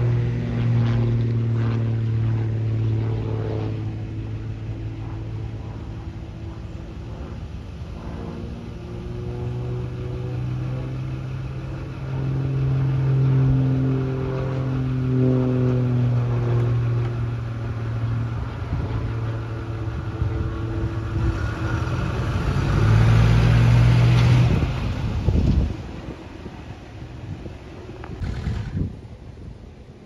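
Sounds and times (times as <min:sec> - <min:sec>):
propeller plane droning: 0:00.0 - 0:30.0.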